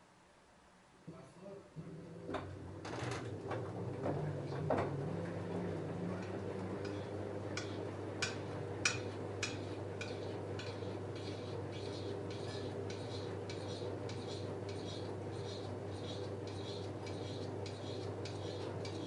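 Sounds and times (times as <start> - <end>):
washing machine motor hum: 1.8 - 19.0.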